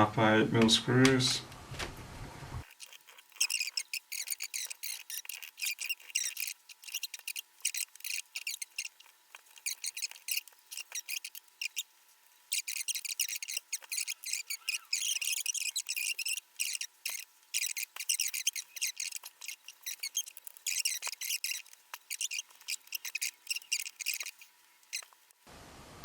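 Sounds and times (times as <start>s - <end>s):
screwdriver clicking and scratching: 2.6s - 11.9s, 12.5s - 25.3s.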